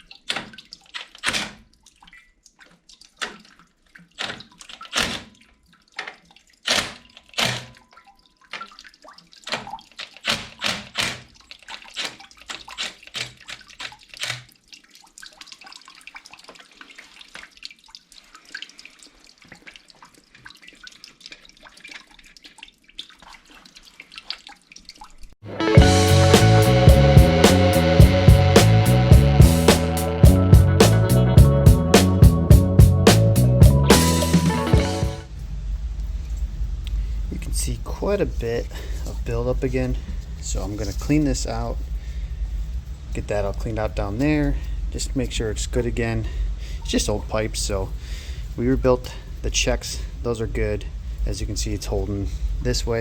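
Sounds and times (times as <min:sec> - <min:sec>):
water dripping and trickling: 0:00.0 - 0:25.4, 0:35.2 - 0:53.0.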